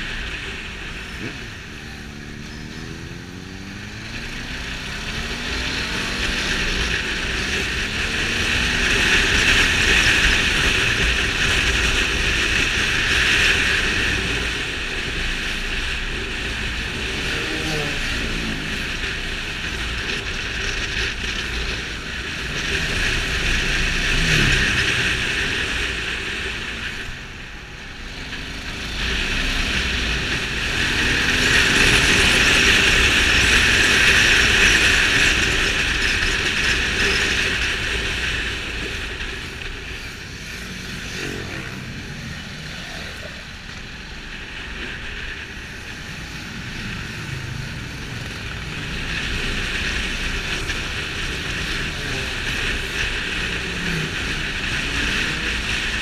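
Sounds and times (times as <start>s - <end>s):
loud rushing wind noise: 0.0s - 56.0s
motorcycle engine revving: 0.0s - 56.0s.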